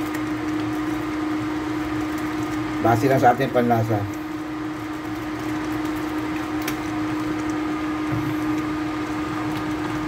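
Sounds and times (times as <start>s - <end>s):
mid-pitched hum: 0.0s - 10.0s.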